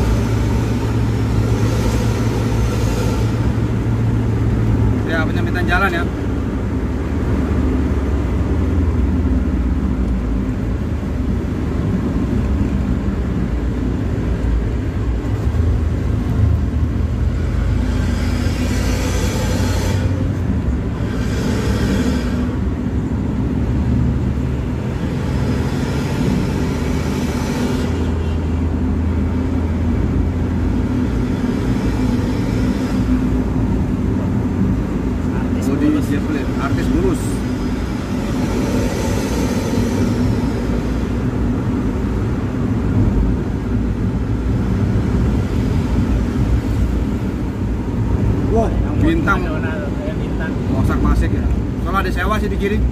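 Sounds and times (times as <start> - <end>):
engine and tyre rumble: 0.0 - 52.9
road hiss: 0.0 - 52.9.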